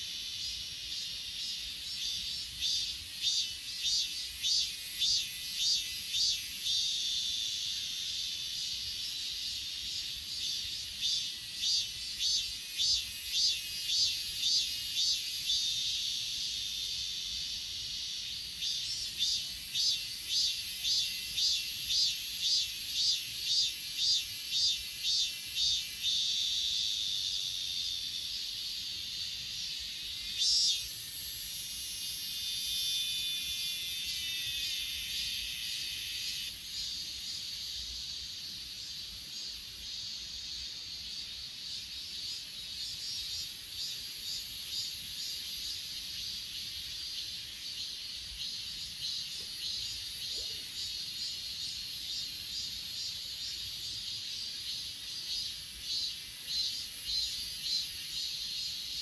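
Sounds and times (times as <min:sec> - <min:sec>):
crickets chirping: 0:00.0 - 0:59.0
high steady insect trill: 0:00.0 - 0:59.0.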